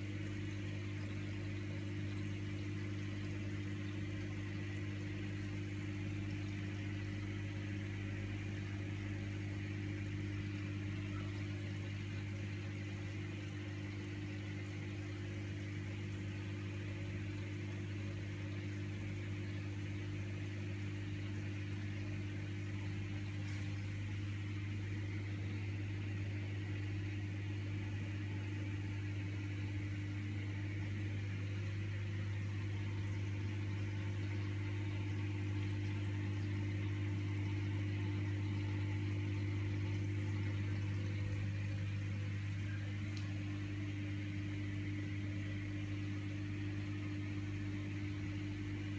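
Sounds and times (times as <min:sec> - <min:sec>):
aquarium pump hum: 0:00.0 - 0:48.9
air bubbles in water: 0:00.1 - 0:48.9.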